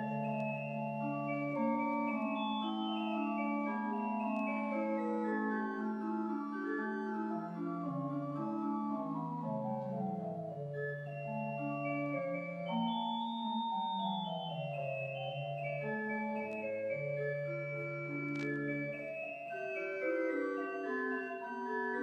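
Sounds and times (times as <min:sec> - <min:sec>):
pipe organ chords: 0:00.0 - 0:22.0.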